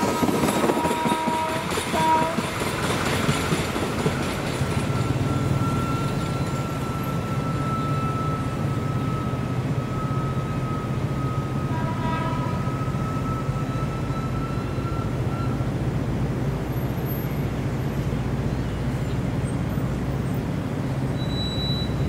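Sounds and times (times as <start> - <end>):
railway engines idling: 0.0 - 22.0.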